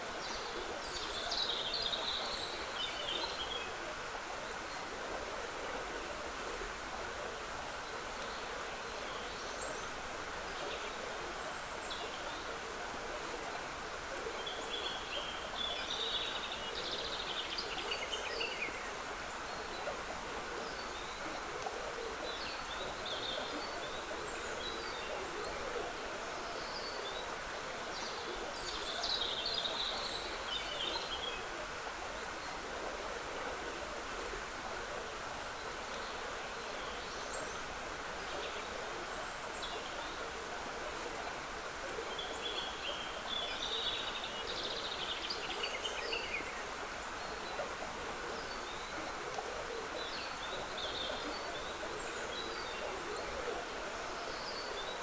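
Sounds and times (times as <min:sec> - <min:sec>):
trickling stream: 0:00.0 - 0:55.0.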